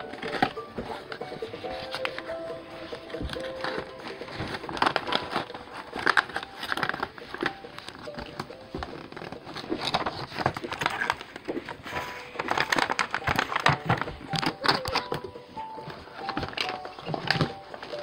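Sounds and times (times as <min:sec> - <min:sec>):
cardboard scraping and rustling: 0:00.0 - 0:18.0
packaging crinkling: 0:00.0 - 0:18.0.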